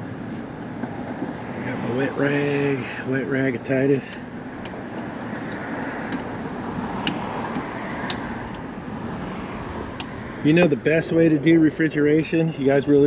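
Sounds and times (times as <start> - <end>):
outdoor rushing noise: 0.0 - 13.0.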